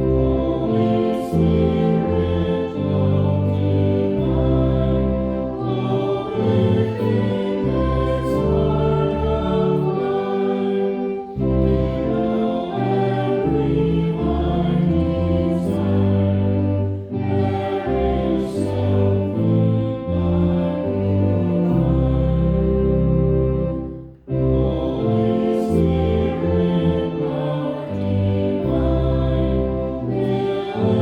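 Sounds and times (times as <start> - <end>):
choral church music: 0.0 - 31.0.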